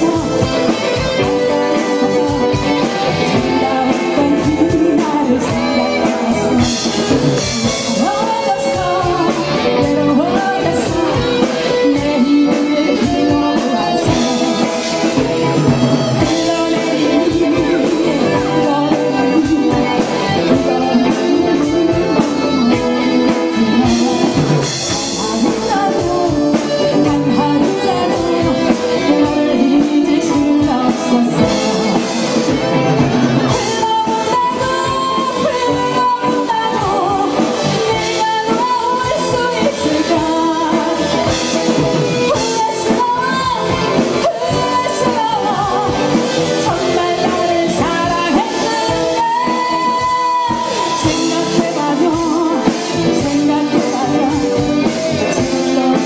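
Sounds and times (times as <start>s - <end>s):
drum kit: 0.0s - 56.0s
electric guitars: 0.0s - 56.0s
woman singing into microphone: 0.0s - 56.0s.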